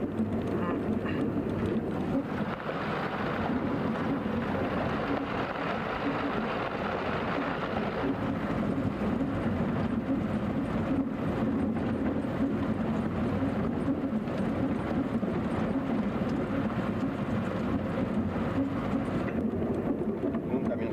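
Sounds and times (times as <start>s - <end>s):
vehicle engine and tyres on dirt: 0.0s - 20.9s.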